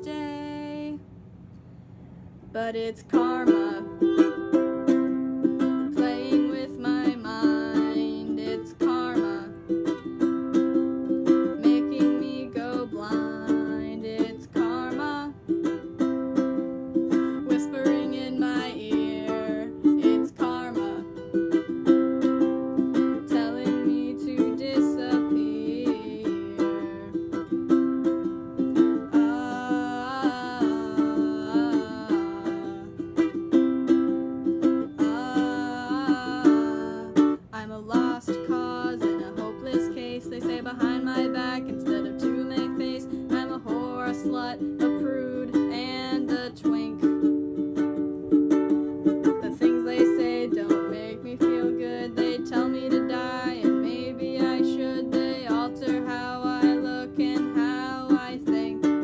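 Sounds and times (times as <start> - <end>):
person singing: 0.0 - 1.0, 2.6 - 15.9, 16.9 - 27.9, 28.6 - 33.6, 34.4 - 47.4, 48.7 - 59.0
acoustic strings strumming: 0.0 - 59.0.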